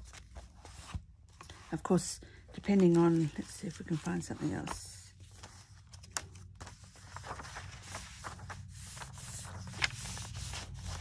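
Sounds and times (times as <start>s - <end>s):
paper pages rustling and turning: 0.0s - 11.0s.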